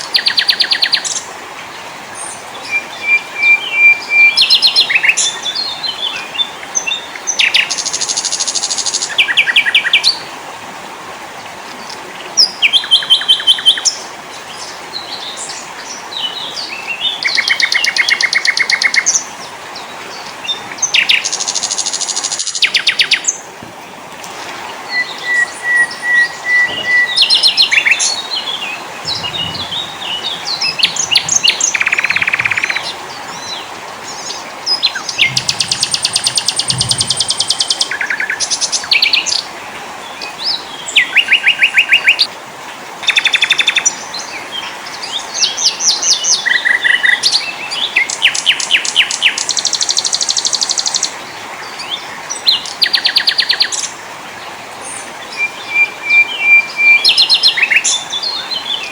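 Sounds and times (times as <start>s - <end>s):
songbirds singing: 0.0s - 10.7s, 11.3s - 58.9s.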